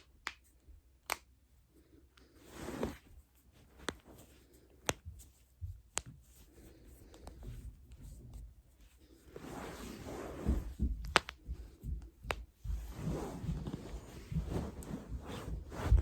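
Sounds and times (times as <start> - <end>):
rustling: 2.2 - 16.0.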